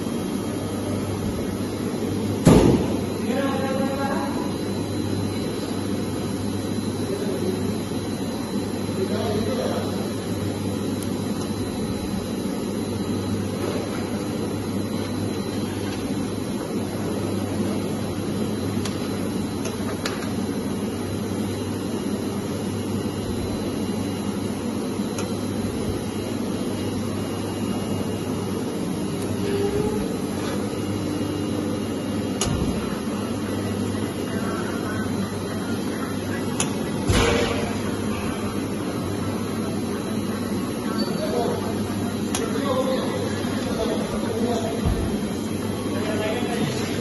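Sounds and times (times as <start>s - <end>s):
low machinery hum: 0.0s - 47.0s.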